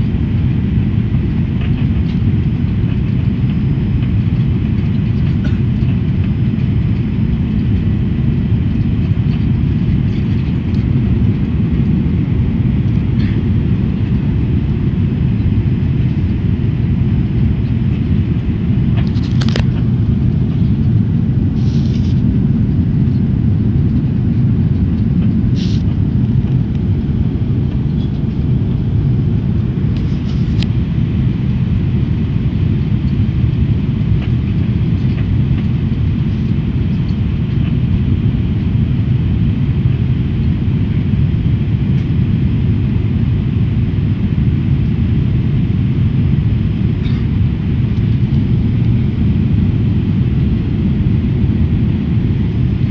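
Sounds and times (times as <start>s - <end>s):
jet engine and airflow rumble: 0.0s - 52.9s.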